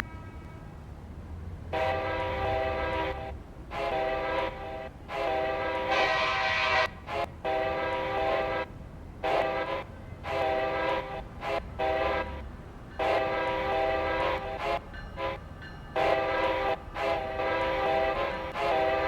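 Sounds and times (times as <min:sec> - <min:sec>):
locomotive air horn blasts: 0:01.7 - 0:19.0.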